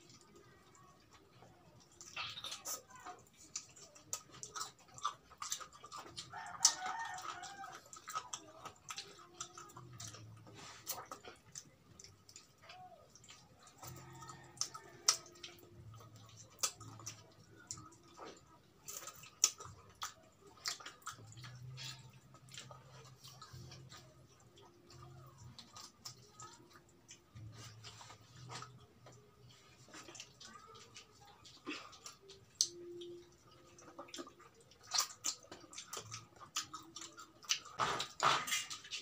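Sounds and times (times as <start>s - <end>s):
people eating and chewing: 0.0s - 39.0s.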